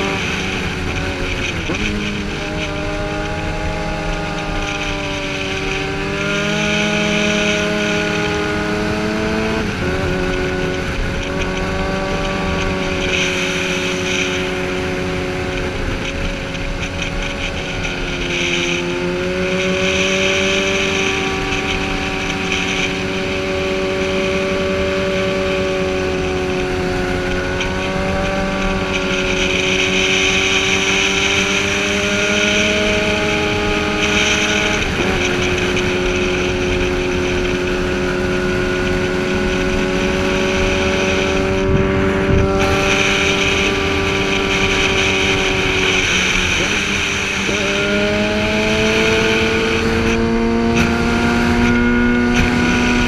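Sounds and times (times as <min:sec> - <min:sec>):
motorcycle engine running hard: 0:00.0 - 0:53.0
wind rush: 0:00.0 - 0:53.0.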